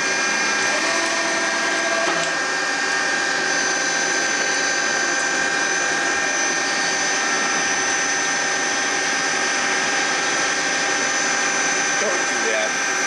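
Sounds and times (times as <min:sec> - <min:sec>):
high-pitched whines: 0:00.0 - 0:13.0
machinery whirring: 0:00.0 - 0:13.0.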